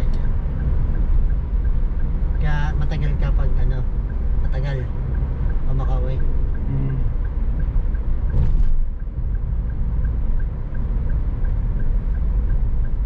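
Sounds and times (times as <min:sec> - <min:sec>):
road and engine rumble: 0:00.0 - 0:13.0
turn signal ticking: 0:00.0 - 0:13.0.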